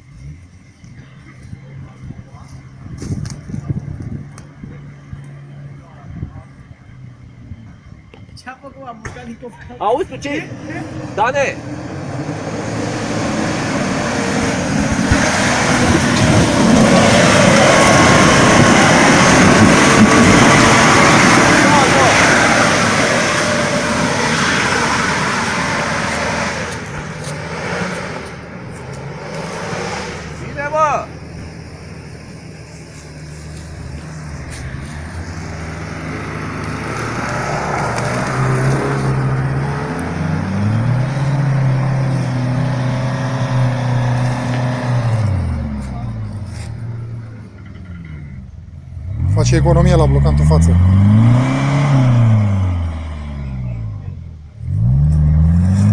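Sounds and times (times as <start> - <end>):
off-road vehicle engine running: 0.0 - 55.9.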